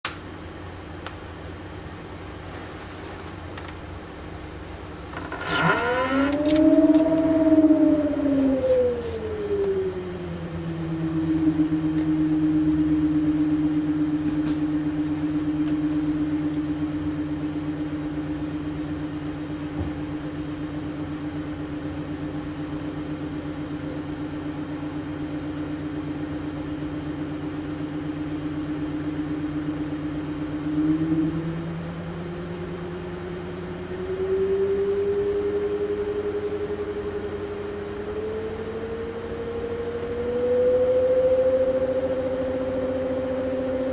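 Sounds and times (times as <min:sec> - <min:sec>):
computer fan droning hum: 0:00.0 - 0:43.9.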